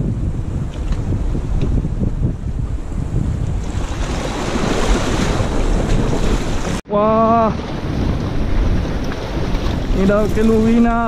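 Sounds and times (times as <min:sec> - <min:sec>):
wind on microphone: 0:00.0 - 0:11.0
sea waves washing against rocks: 0:00.4 - 0:11.0.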